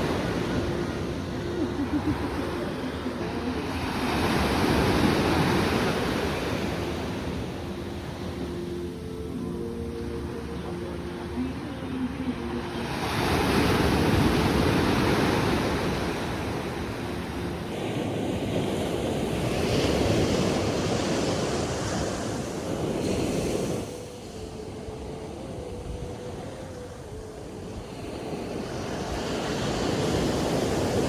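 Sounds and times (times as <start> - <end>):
sea waves washing onto shore: 0.0 - 31.0
wind: 0.0 - 31.0.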